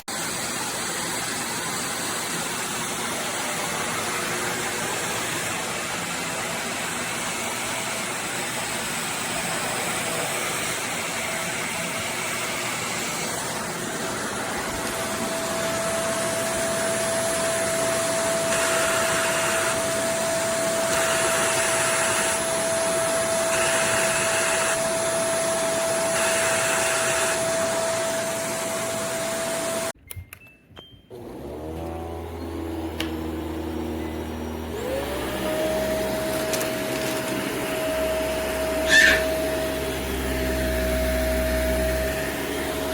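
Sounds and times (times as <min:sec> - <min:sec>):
upright vacuum running: 0:00.0 - 0:30.0, 0:31.1 - 0:42.9.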